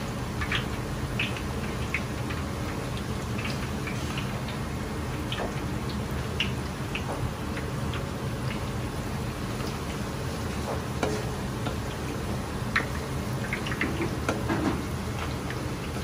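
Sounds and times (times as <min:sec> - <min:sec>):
food deep-frying in oil: 0:00.0 - 0:16.0
oil crackles and pops: 0:00.3 - 0:16.0.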